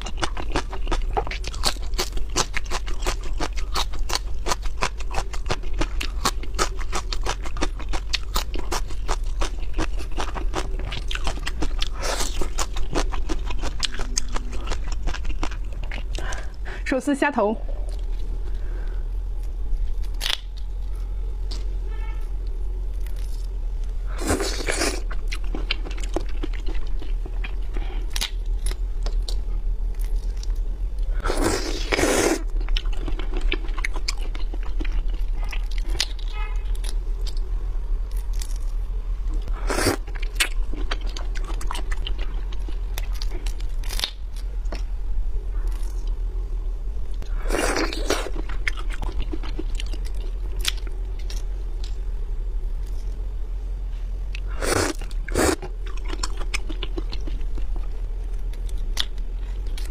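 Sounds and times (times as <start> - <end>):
chewing and crunching shrimp: 0.0 - 16.6, 19.2 - 46.3, 47.1 - 53.4, 54.3 - 59.9
low steady hum: 0.0 - 59.9.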